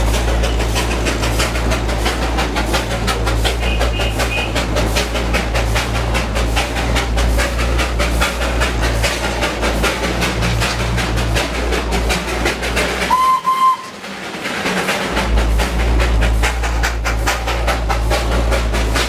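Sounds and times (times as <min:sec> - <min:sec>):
steam train rapid beat: 0:00.0 - 0:19.0
train low rumble: 0:00.0 - 0:19.0.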